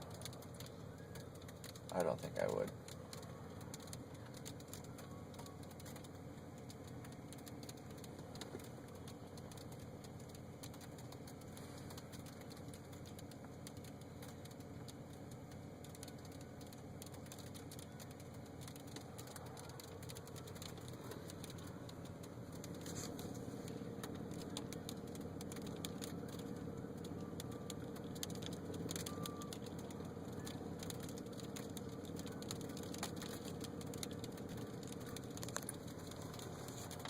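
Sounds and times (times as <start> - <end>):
hailstones clicking: 0.0 - 37.0.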